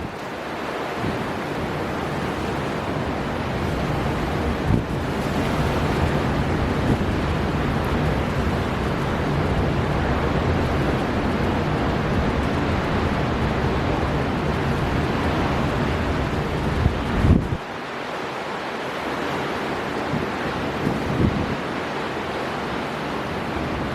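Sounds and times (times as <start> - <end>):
wind buffeting microphone: 0.0 - 17.8, 19.7 - 23.9
heavy surf: 0.0 - 23.9.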